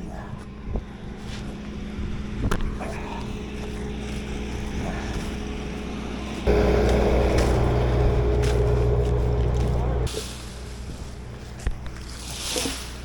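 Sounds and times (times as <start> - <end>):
skid steer engine running: 0.8 - 12.4.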